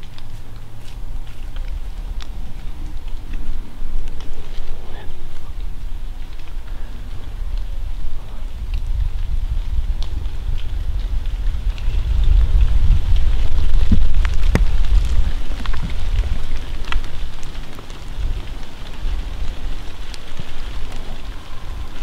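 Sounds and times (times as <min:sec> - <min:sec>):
light rain pattering: 0:00.0 - 0:22.0
low rumble on microphone: 0:00.0 - 0:22.0.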